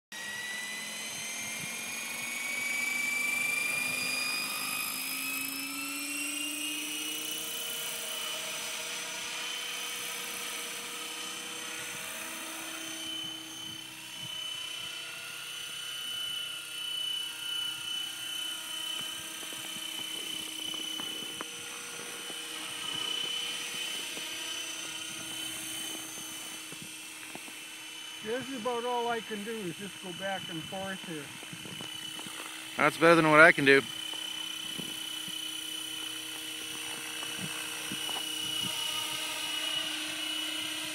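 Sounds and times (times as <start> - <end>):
model helicopter whine: 0.1 - 40.9.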